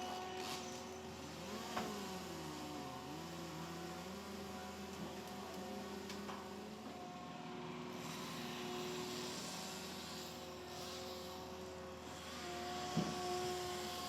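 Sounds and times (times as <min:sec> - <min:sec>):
machine engine droning: 0:00.0 - 0:14.0.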